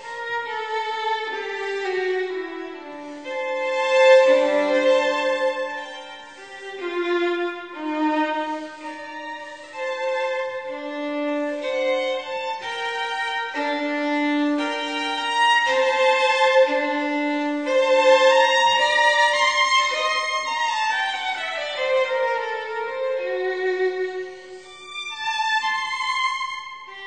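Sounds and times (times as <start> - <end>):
slow bowed strings melody: 0.0 - 27.0.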